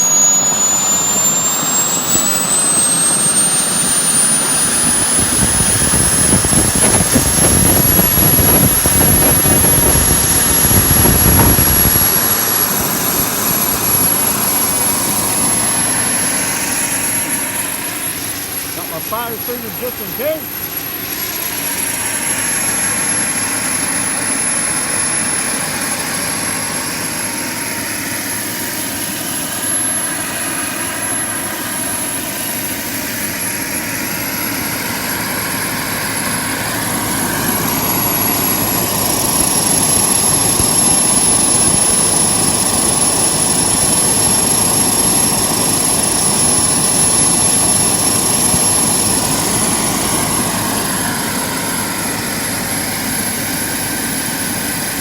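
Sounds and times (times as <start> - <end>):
high turbine whine: 0.0 - 55.0
model turboprop turbine roaring: 0.0 - 55.0.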